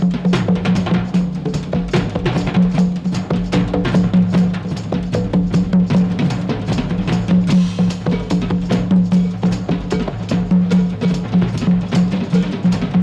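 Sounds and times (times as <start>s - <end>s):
drum kit: 0.0s - 13.0s.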